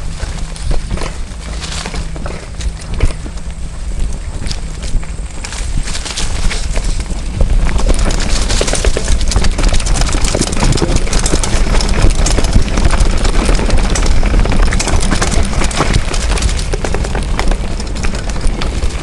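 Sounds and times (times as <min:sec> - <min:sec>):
bike rattling over bumps: 0:00.0 - 0:19.0
low rumble: 0:00.0 - 0:19.0
tyre noise on dirt: 0:00.0 - 0:19.0.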